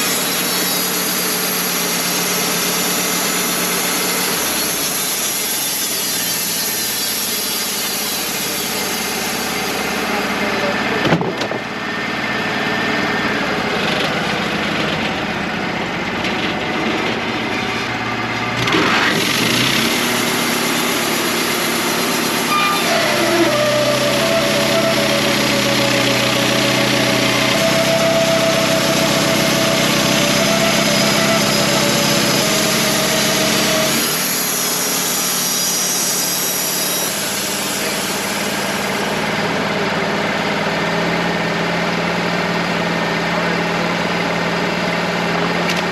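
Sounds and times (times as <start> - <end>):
wavering saw whine: 0.0 - 11.0, 11.6 - 45.9
band sawmill running: 0.0 - 45.9.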